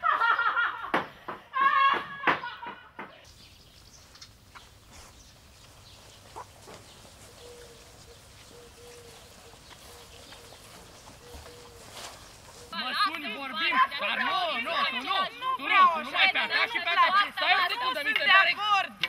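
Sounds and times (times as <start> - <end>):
faint outdoor sounds: 0.0 - 19.0.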